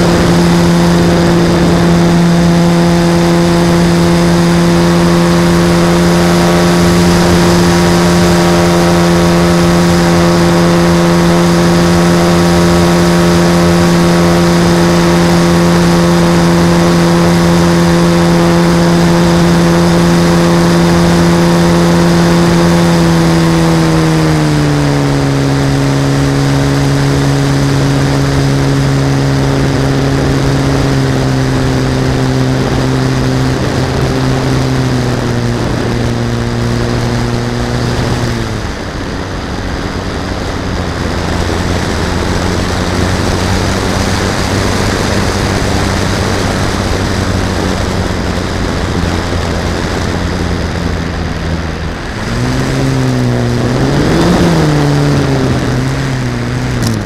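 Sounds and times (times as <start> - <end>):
model airplane motor and propeller: 0.0 - 57.0.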